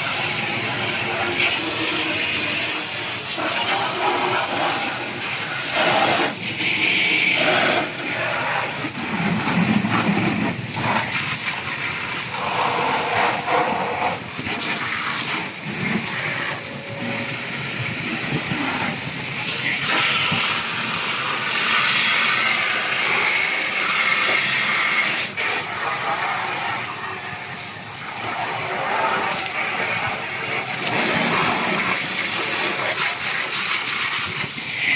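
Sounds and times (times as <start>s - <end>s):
running water splashing: 0.0s - 34.9s.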